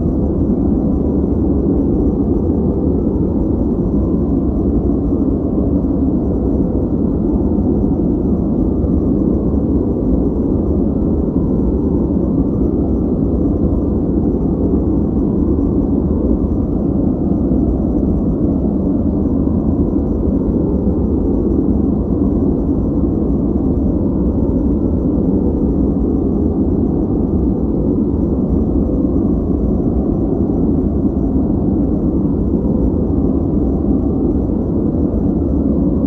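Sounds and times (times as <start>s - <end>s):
deep muffled steady noise: 0.0s - 36.0s.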